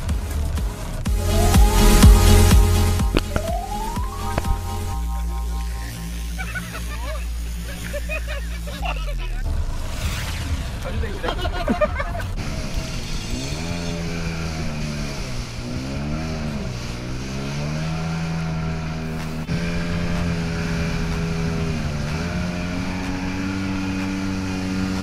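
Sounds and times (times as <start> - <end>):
jet ski engine running: 0.0 - 17.6, 18.6 - 25.0.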